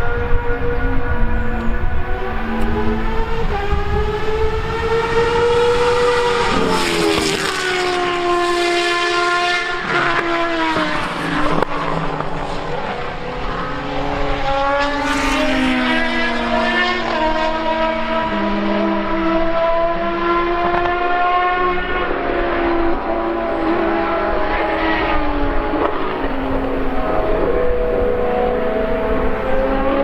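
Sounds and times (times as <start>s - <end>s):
racing car engine: 0.0s - 30.0s.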